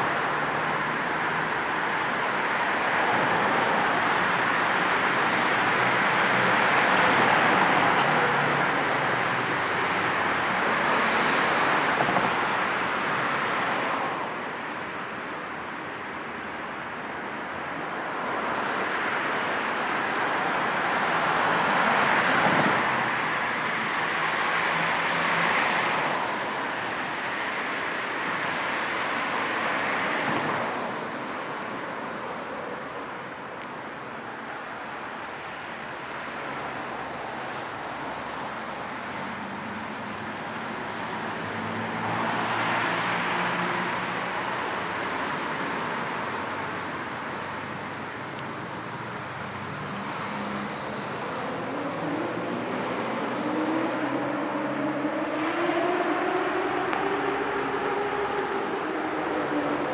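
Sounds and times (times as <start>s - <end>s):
cars passing with hiss: 0.0s - 59.9s.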